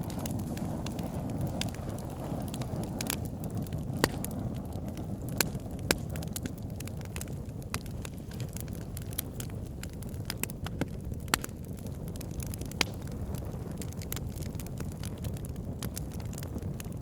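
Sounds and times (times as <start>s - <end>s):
fire burning with crackles: 0.0s - 17.0s.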